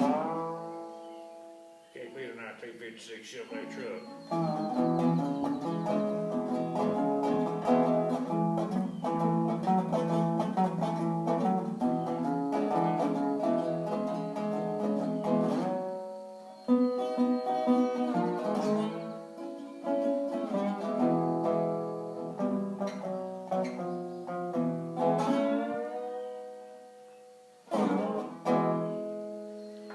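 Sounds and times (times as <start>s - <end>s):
resonator guitar plucked melody: 0.0s - 1.9s, 3.4s - 29.9s.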